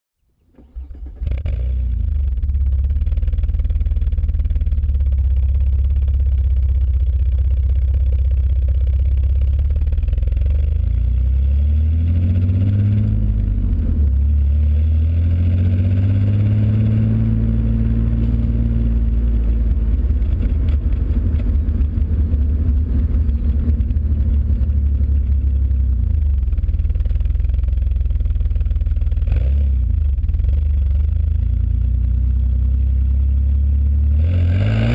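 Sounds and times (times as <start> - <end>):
car exhaust idling and revving: 1.2 - 34.9.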